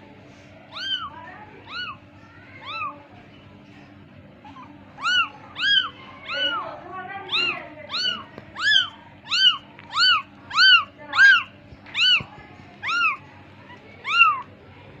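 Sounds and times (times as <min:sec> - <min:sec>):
kitten mewing: 0:00.7 - 0:03.0, 0:04.4 - 0:14.5.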